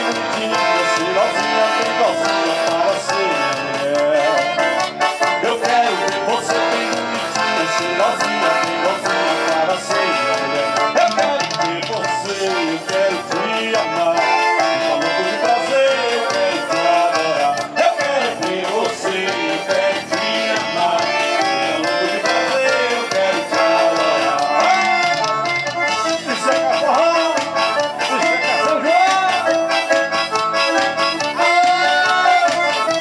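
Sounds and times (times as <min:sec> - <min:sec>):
accordion melody: 0:00.0 - 0:33.0
percussion beat: 0:00.0 - 0:33.0.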